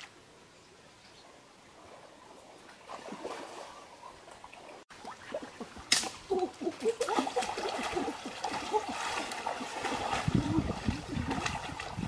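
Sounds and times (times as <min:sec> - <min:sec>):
water splashing and trickling: 0:01.8 - 0:12.0.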